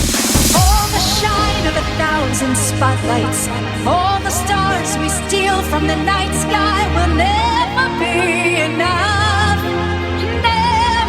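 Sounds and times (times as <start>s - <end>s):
pop ballad: 0.0s - 11.0s
person singing with vibrato: 0.3s - 11.0s.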